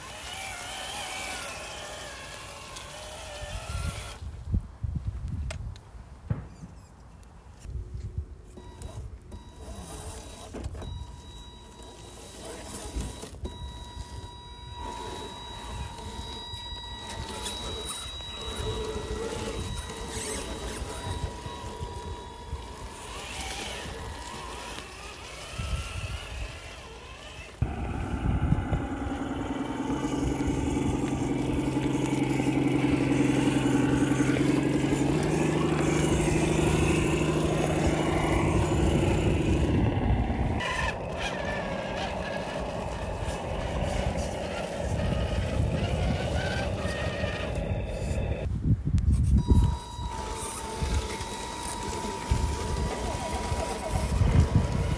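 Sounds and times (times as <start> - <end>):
electric motors whining: 0.0 - 4.3, 8.5 - 48.5, 49.4 - 54.9
rc trucks driving over rocks: 0.0 - 4.4, 8.4 - 48.5, 49.2 - 54.9.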